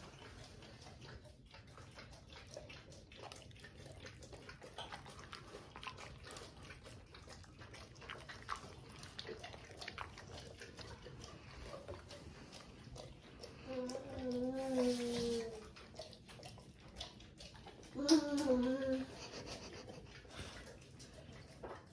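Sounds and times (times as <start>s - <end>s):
dog licking a plate: 0.0s - 21.9s.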